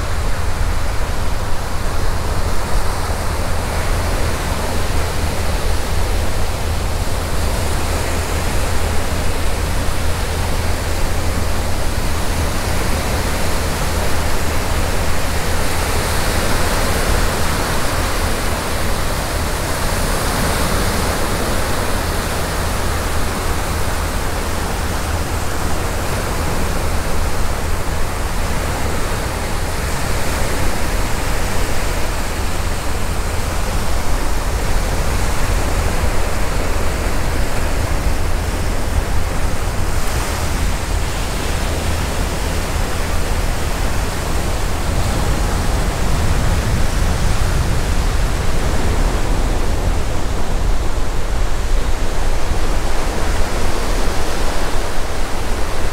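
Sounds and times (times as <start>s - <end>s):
surf washing on beach: 0.0s - 55.9s
wind on microphone: 0.0s - 55.9s.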